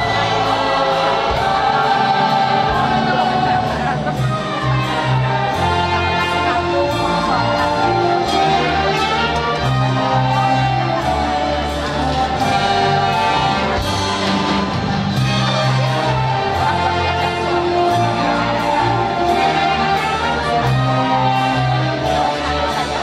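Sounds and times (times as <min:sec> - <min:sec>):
double bass line: 0:00.0 - 0:23.0
violins playing melody: 0:00.0 - 0:23.0.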